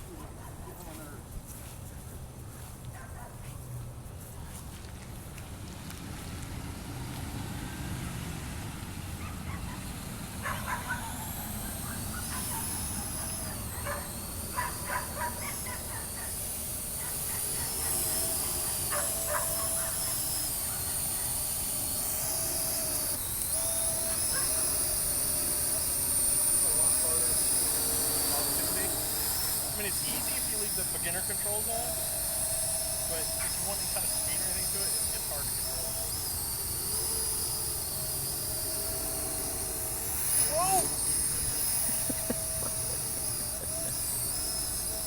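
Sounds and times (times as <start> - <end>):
quadcopter propellers whining: 0.0 - 45.0.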